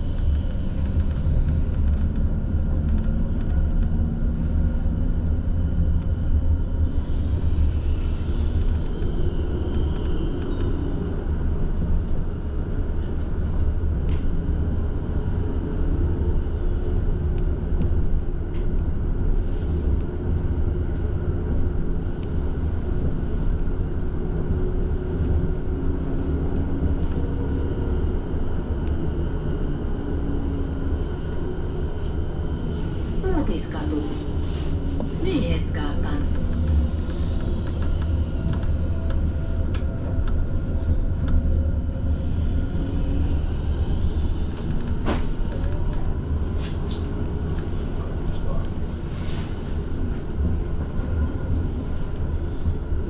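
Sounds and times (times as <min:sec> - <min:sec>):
tram wheels rumbling: 0:00.0 - 0:53.0.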